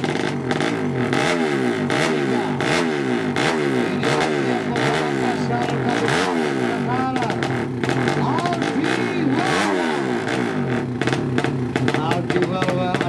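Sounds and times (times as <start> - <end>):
exhaust cracks: 0.0 - 13.0
motorcycle engine revving: 0.0 - 13.0.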